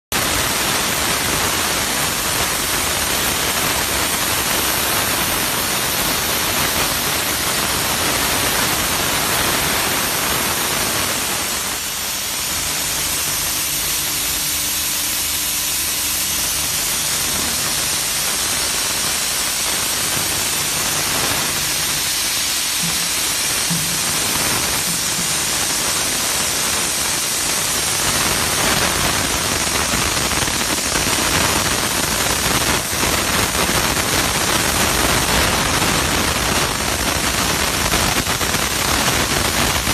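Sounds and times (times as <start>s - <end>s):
steam hissing from spray gun: 0.1s - 39.9s.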